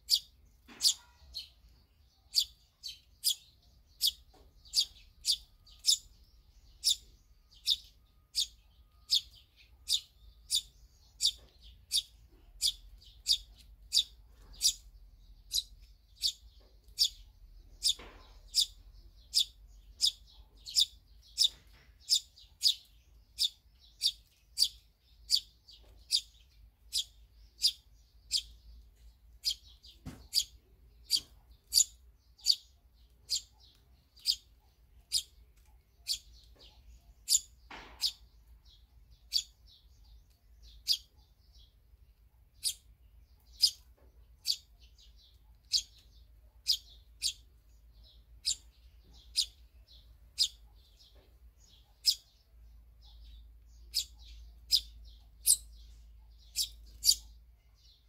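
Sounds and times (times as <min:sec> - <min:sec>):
small bird chirping: 0:00.0 - 0:58.0.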